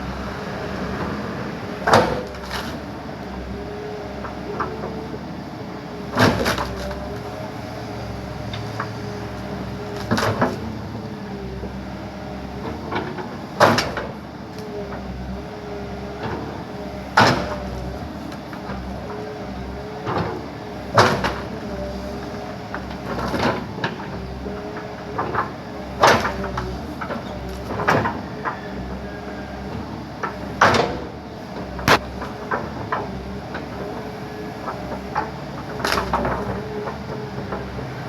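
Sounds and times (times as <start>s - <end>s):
backhoe engine running: 0.0s - 38.0s.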